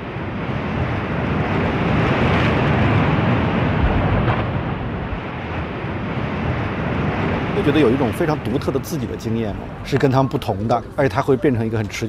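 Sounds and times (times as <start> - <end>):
sea surf washing onto beach: 0.0 - 11.2.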